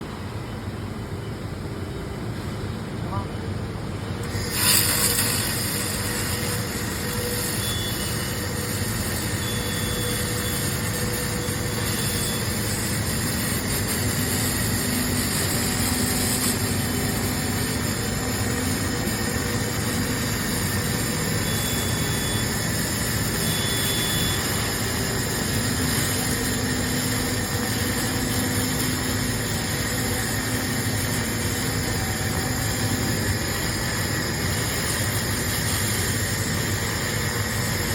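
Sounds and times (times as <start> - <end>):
mechanical hum: 0.0 - 37.9
laser hissing: 4.2 - 37.9.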